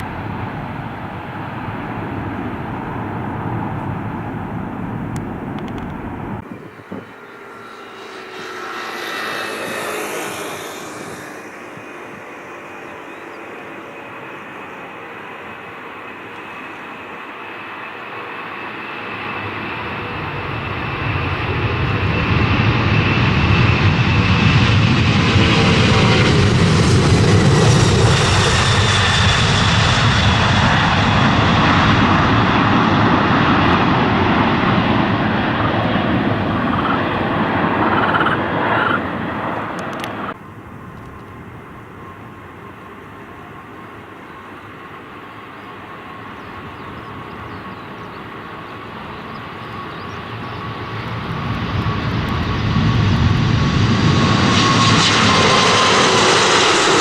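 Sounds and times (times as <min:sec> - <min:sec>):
airliner engine rush: 0:00.0 - 0:57.0.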